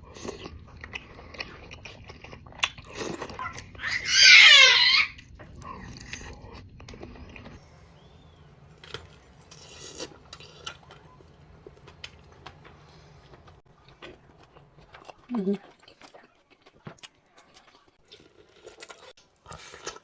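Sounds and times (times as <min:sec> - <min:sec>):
soft chewing: 0:00.0 - 0:03.8, 0:05.2 - 0:20.0.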